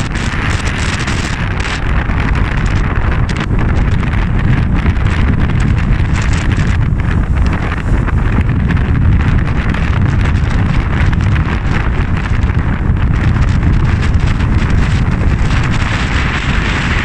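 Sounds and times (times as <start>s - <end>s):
surf breaking on shore: 0.0s - 17.0s
wind buffeting microphone: 0.0s - 17.0s.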